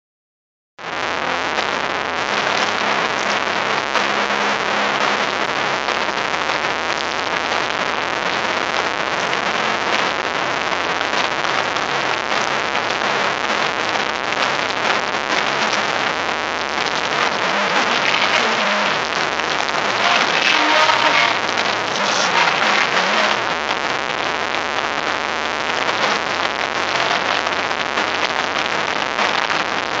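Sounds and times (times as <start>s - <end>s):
distorted live band music: 0.8s - 24.5s, 25.6s - 30.0s.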